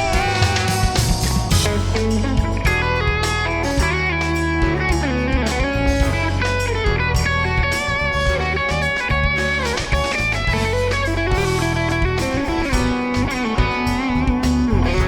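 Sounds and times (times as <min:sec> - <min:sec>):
bass and drums: 0:00.0 - 0:15.0
electric guitar bending notes: 0:00.0 - 0:15.0.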